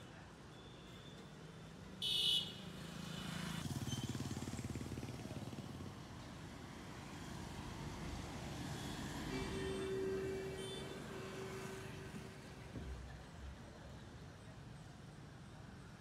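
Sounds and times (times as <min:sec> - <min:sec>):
street traffic hum: 0:00.0 - 0:16.0.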